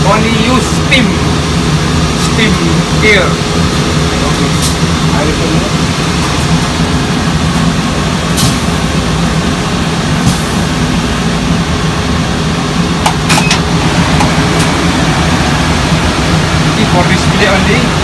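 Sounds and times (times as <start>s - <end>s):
laundry machinery drone: 0.0s - 18.0s.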